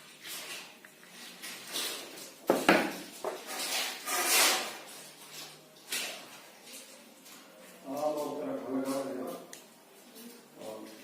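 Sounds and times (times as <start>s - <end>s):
rustling scrapes: 0.0s - 11.0s.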